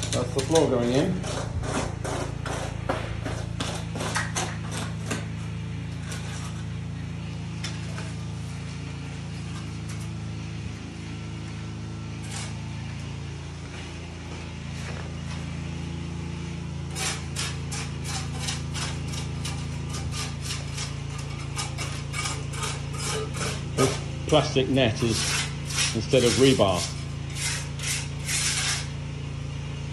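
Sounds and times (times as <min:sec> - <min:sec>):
tools scraping wet concrete: 0:00.0 - 0:29.5
low machine hum: 0:00.0 - 0:29.9.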